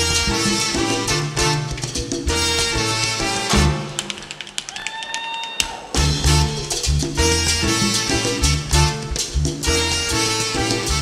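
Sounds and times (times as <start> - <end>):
latin jazz band playing: 0.0 - 4.7, 5.9 - 11.0.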